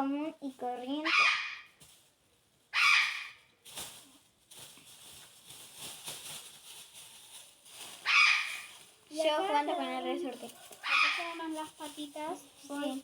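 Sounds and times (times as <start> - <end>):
plastic bag rustling: 0.4 - 13.0.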